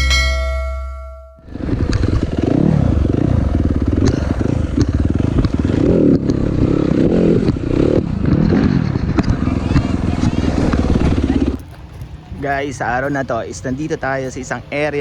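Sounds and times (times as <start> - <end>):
dirt bike engines revving: 1.5 - 15.0.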